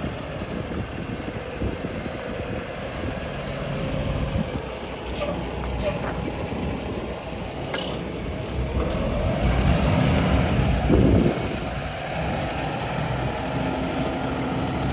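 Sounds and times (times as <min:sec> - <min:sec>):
diesel truck engine revving: 0:00.0 - 0:14.9.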